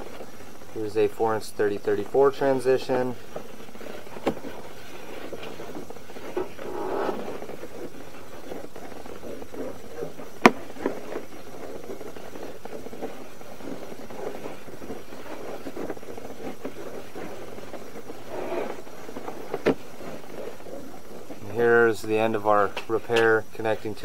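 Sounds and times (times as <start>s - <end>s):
cable rustling and scraping in pipe: 2.1s - 22.5s.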